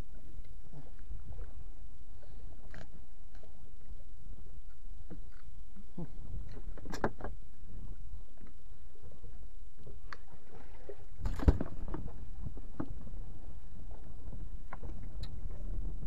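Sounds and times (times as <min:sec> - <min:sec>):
wind and sea rumble: 0:00.0 - 0:16.0.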